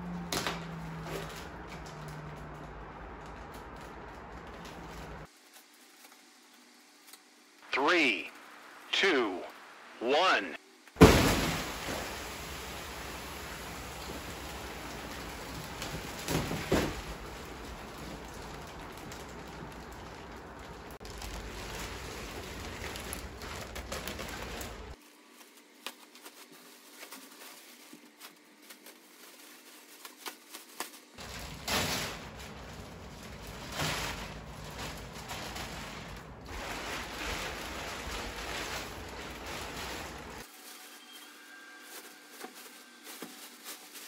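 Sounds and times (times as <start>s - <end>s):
plastic film crinkling: 0.8s - 7.5s, 11.7s - 44.0s.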